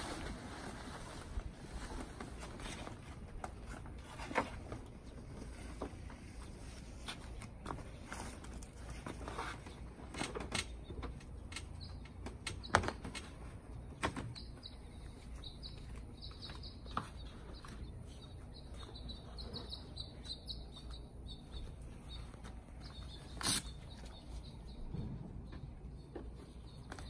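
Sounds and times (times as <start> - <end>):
small birds chirping: 0.2 - 27.0.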